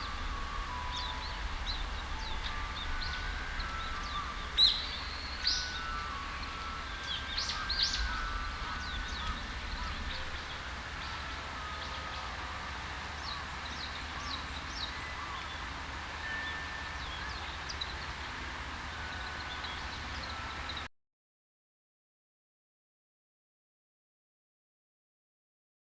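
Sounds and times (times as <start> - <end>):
birds chirping high: 0.0 - 20.9
steady low rumble: 0.0 - 20.9.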